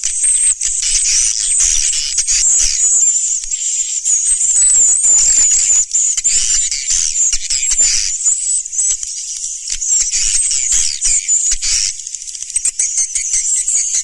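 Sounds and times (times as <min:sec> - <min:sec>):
swiftlet chirps and twitters: 0:00.2 - 0:14.0.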